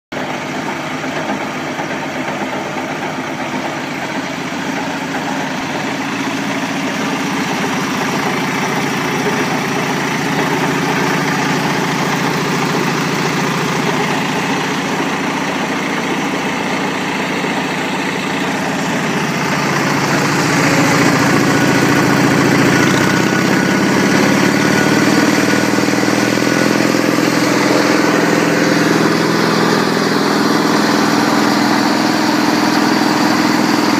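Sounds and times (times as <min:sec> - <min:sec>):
garden tractor engine idling: 0:00.1 - 0:33.9.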